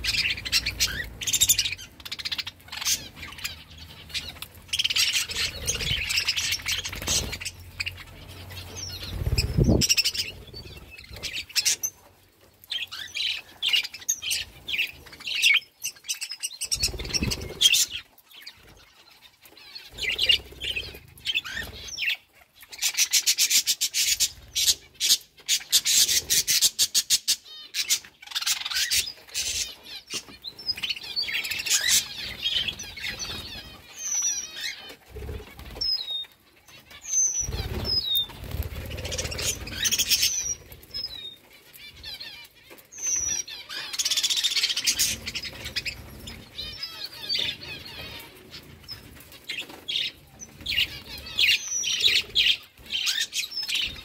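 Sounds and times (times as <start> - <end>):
budgerigars chirping: 0.0 - 12.0, 12.7 - 54.0.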